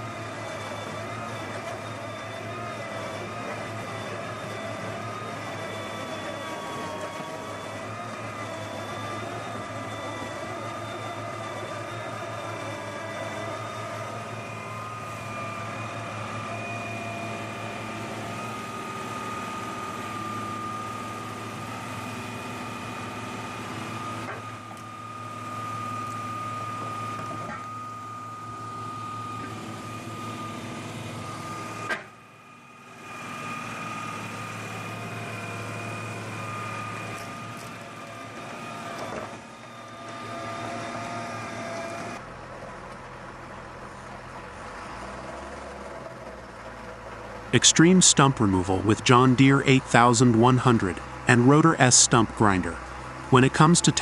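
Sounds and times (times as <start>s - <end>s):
stump grinder engine hum: 0.0s - 47.6s, 52.5s - 54.0s.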